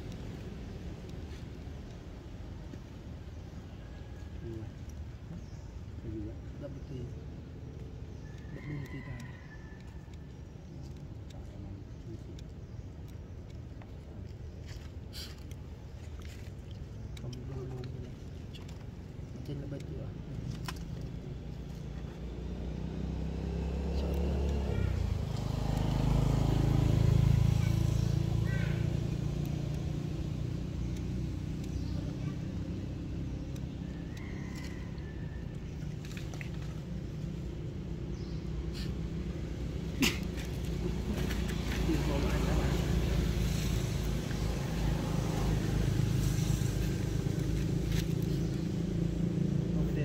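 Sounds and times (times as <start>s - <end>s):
motor vehicle engine approaching: 0.0s - 50.0s.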